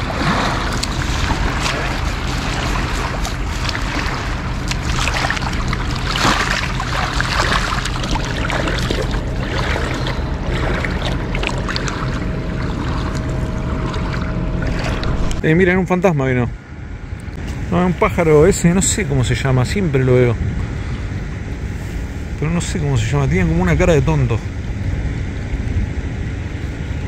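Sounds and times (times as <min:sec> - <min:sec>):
water noise: 0:00.0 - 0:27.0
wind rushing over microphone: 0:00.0 - 0:27.0.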